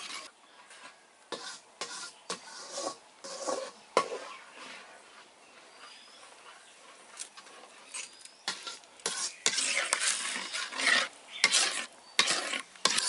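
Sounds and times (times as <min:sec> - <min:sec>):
metal spoon scraping a pan: 0:00.0 - 0:05.0, 0:07.4 - 0:13.0.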